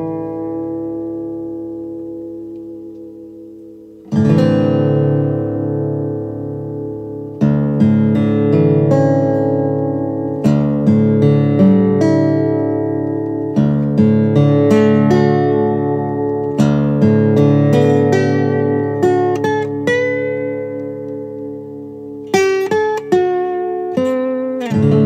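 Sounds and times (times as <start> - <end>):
acoustic guitar chords ringing: 0.0 - 25.0.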